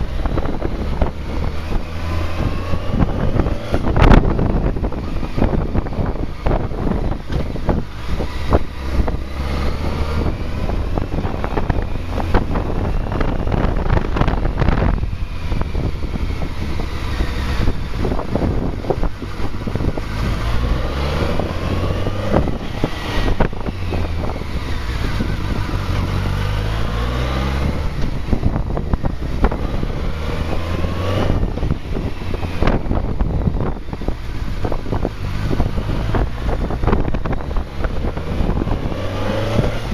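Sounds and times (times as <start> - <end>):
motorcycle engine at low revs: 0.0 - 39.9
wind buffeting microphone: 0.0 - 39.9.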